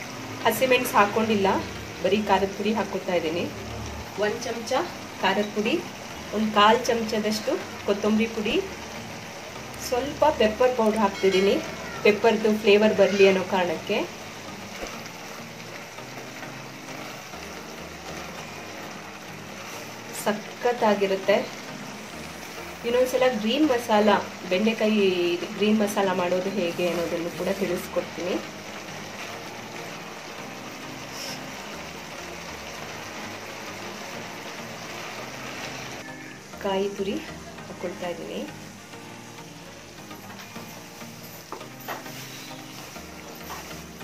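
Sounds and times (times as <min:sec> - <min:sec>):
curry sizzling in a pan: 0:00.0 - 0:44.0.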